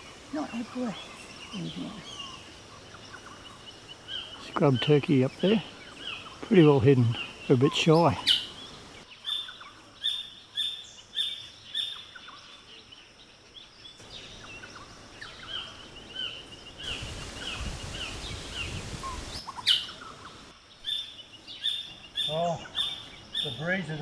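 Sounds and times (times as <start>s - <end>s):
birds chirping and calling: 0.0s - 12.5s, 14.0s - 24.0s.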